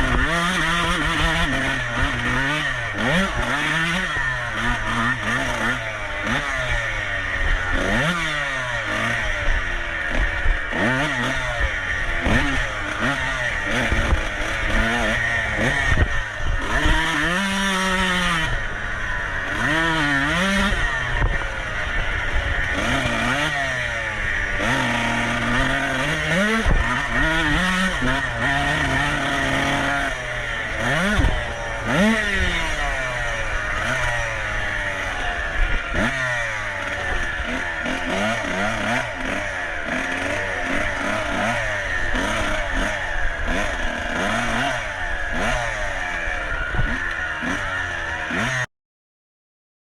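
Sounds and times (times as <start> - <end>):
dirt bike engine revving: 0.0 - 48.7.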